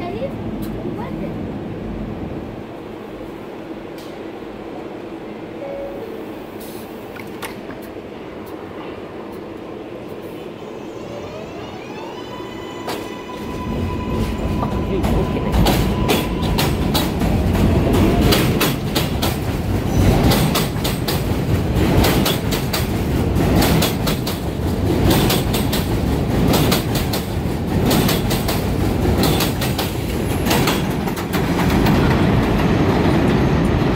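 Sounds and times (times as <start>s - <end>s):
train rumbling on elevated track: 0.0s - 33.9s.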